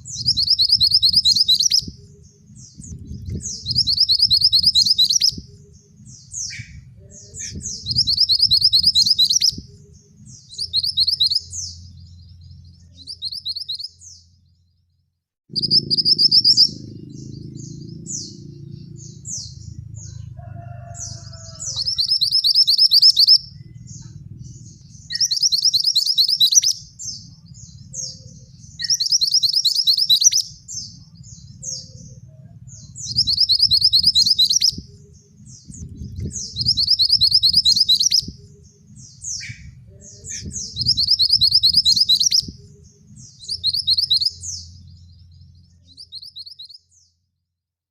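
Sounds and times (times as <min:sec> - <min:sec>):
bird singing high trill: 0:00.0 - 0:14.6, 0:15.5 - 0:47.1
low rumble: 0:00.0 - 0:14.9, 0:15.5 - 0:25.7, 0:30.4 - 0:46.2.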